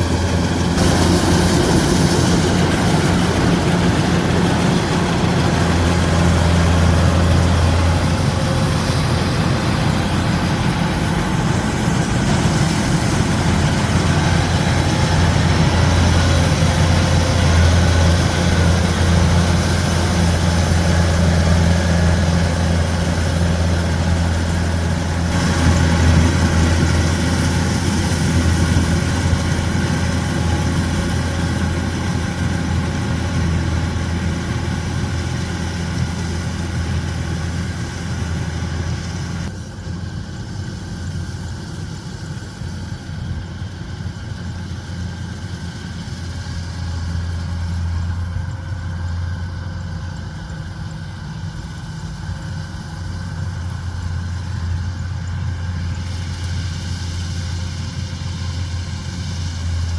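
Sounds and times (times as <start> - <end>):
hissing noise: 0.0 - 50.2
combine harvester engine hum: 0.0 - 59.9.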